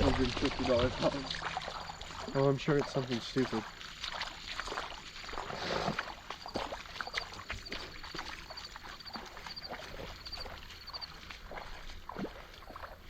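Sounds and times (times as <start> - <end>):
footsteps splashing through water: 0.0 - 13.0.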